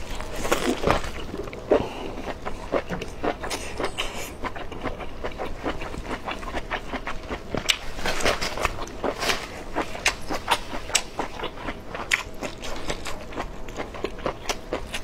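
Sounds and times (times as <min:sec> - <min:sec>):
wet crunchy chewing: 0:00.0 - 0:15.0.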